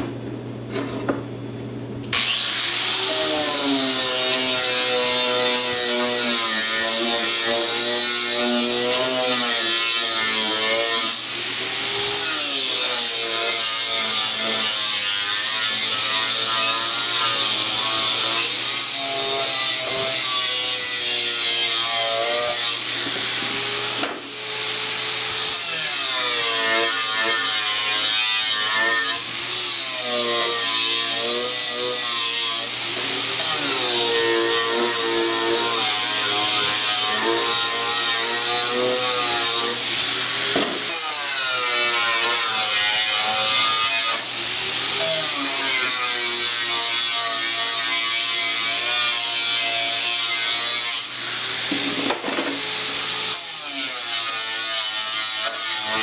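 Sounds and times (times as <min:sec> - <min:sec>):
angle grinder sanding steel: 0:02.2 - 0:56.0.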